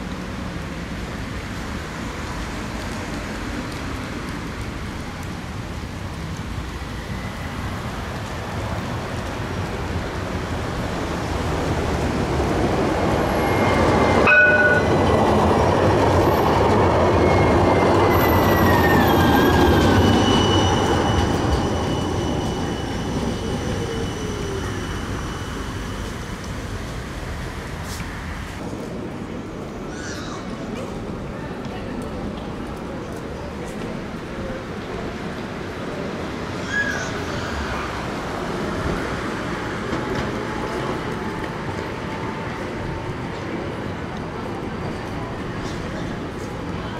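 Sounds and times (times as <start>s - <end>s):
tram rolling noise: 0.0s - 46.9s.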